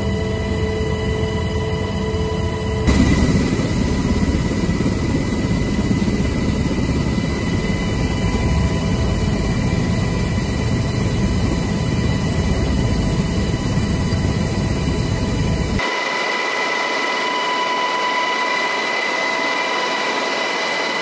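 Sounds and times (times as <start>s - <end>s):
constant whining tones: 0.0s - 21.0s
helicopter engines and rotor drone: 0.0s - 21.0s.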